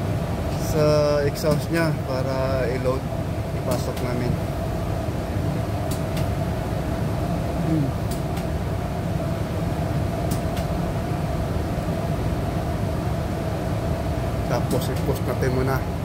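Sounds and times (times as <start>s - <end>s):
constant hum: 0.0s - 16.0s
diesel generators droning: 0.0s - 16.0s.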